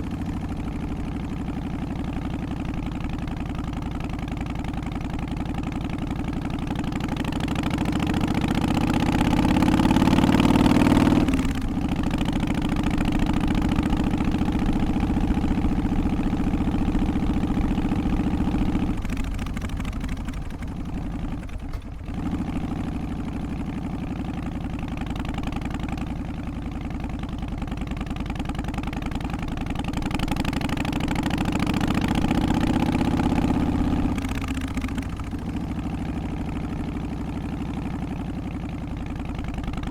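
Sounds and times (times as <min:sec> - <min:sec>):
v-twin motorcycle engine revving: 0:00.0 - 0:39.9.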